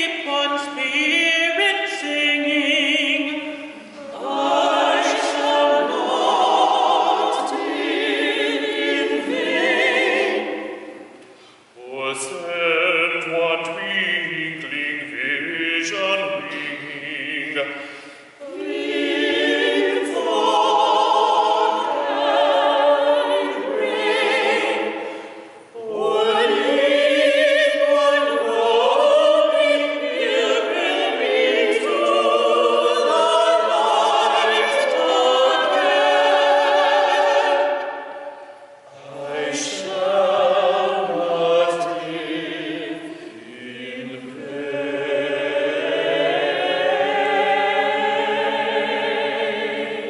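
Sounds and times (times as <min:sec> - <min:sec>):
vocal quartet singing in harmony: 0:00.0 - 0:50.0.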